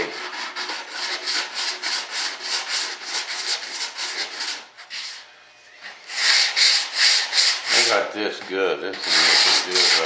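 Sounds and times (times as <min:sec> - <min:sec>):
sandpaper rubbing on filler: 0:00.0 - 0:10.0.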